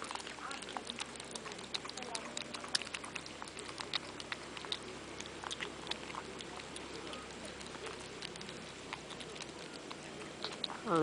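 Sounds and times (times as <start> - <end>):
kittens chewing and licking food: 0.0 - 11.0.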